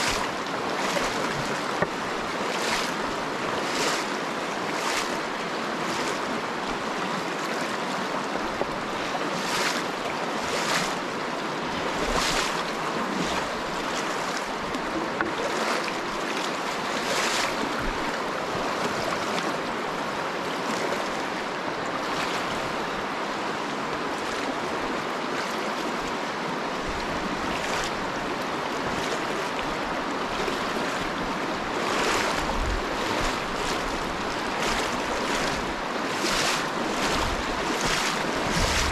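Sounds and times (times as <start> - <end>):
sloshing splashes of wading: 0.0 - 23.0, 26.7 - 38.9
river water rushing over stones: 0.0 - 38.9.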